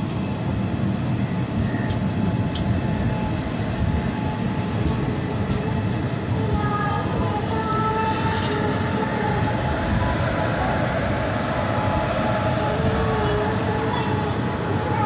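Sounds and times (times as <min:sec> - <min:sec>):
passenger train rumbling: 0:00.0 - 0:15.0.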